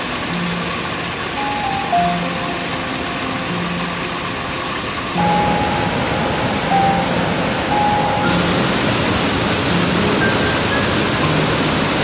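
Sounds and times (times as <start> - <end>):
rain falling: 0.0 - 12.0
stream running over cascades: 0.0 - 12.0.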